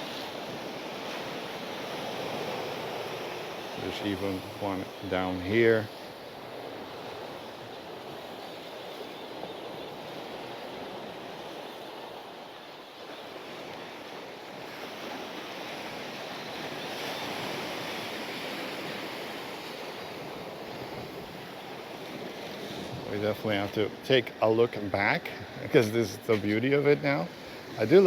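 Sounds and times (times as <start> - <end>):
waves washing on a beach: 0.0 - 28.0.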